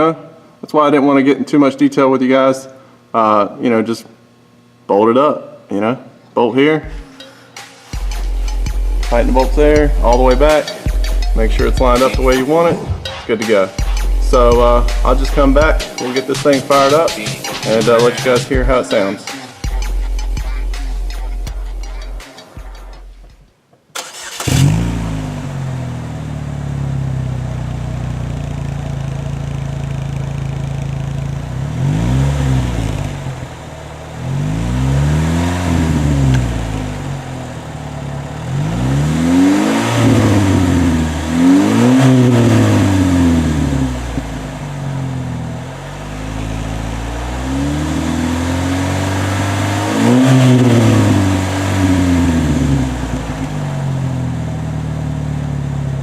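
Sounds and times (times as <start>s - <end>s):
car engine starting: 6.9s - 56.0s
engine idling and revving: 7.9s - 12.4s, 13.8s - 18.8s, 19.5s - 23.3s, 24.0s - 56.0s.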